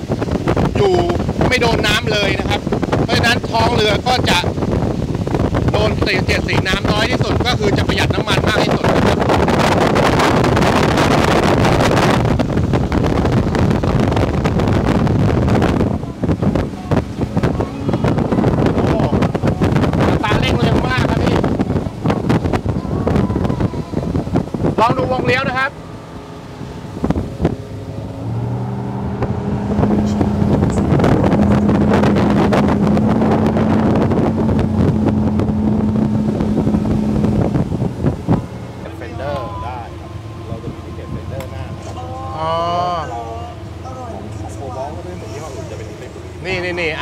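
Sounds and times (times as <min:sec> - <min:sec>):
boat engine droning: 0:00.0 - 0:47.0
water rushing along hull: 0:00.0 - 0:47.0
wind buffeting microphone: 0:00.0 - 0:47.0.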